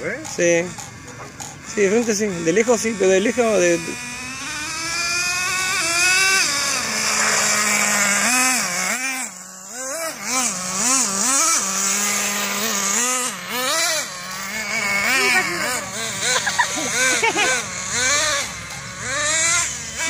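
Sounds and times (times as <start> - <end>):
rc buggy motor whining: 0.0 - 20.0.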